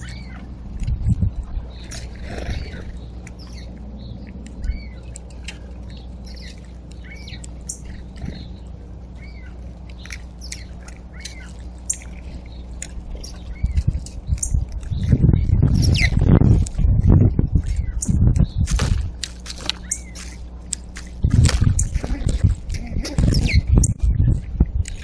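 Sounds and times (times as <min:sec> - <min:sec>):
birds calling: 0:00.0 - 0:25.0
steady low rumble: 0:00.0 - 0:25.0.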